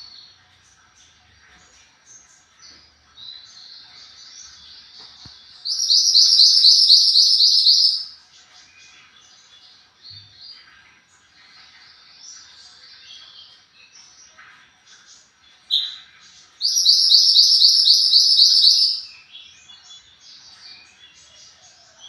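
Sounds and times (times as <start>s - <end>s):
songbird chirping and trilling: 0.0s - 22.0s.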